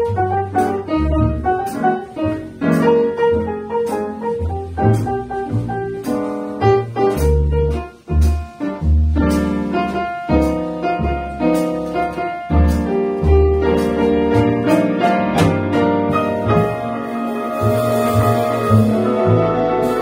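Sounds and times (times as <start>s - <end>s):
jazz piano chords and runs: 0.0s - 20.0s
upright bass notes: 0.0s - 20.0s.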